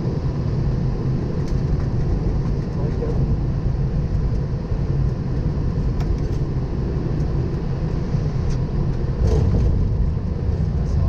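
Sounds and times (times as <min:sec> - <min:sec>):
cockpit low rumble and hiss: 0:00.0 - 0:11.0.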